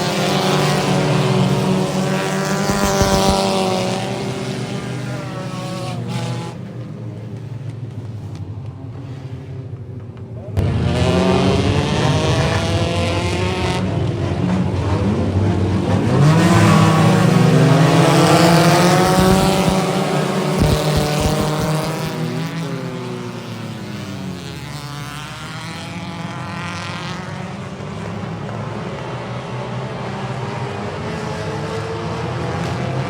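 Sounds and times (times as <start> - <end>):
race car passing by: 0.0 - 7.6, 10.6 - 33.0
race car engines running: 0.0 - 33.0.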